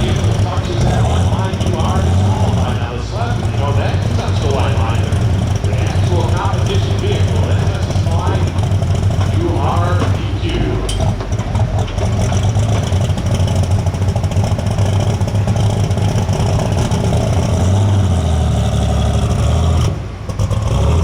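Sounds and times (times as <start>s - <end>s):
tractor engine at high revs: 0.0s - 21.0s.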